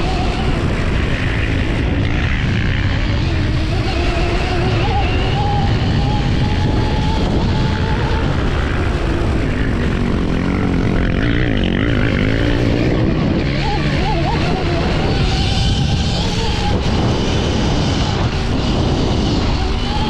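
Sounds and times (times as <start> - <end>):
electric motor whining: 0.0 - 20.0
steady rush of noise: 0.0 - 20.0.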